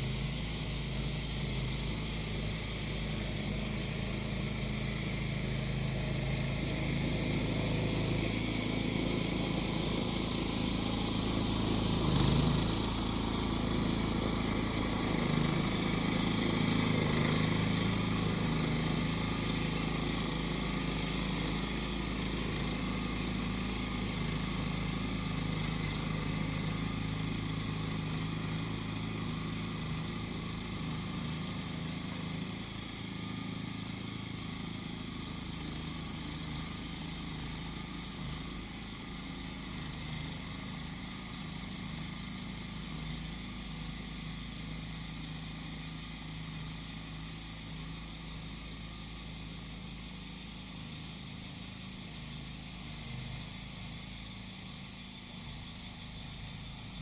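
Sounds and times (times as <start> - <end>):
cicadas droning: 0.0 - 57.0
grass cutter engine running: 0.0 - 57.0.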